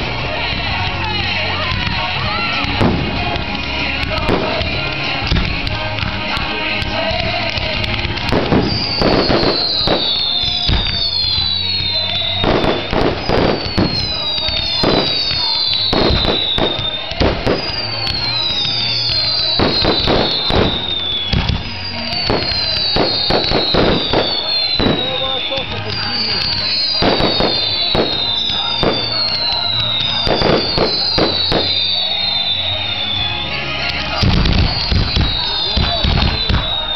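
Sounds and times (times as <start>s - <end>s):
fireworks bangs and crackling: 0.0s - 36.9s
music playing: 0.0s - 36.9s.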